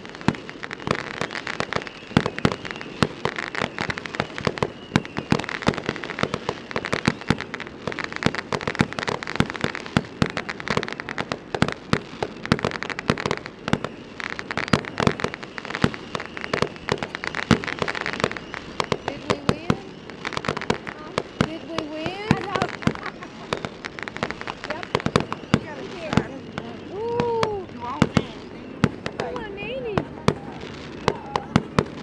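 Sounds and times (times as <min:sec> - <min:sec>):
fireworks popping and banging: 0:00.0 - 0:32.0.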